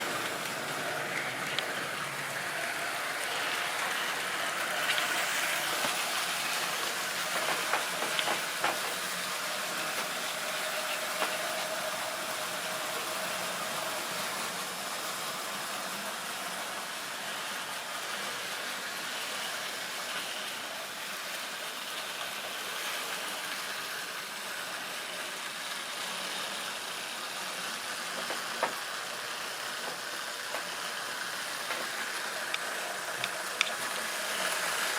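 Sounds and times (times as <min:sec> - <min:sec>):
model train motor whirring: 0:00.0 - 0:34.9.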